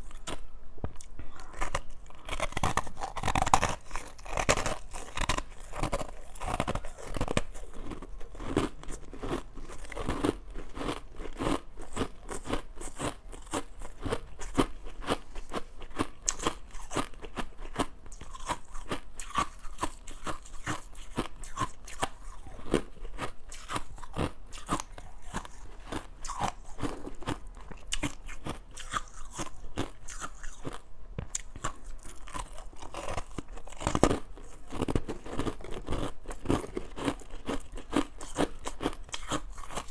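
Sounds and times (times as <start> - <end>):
crunching ice being chewed: 1.0 - 39.9.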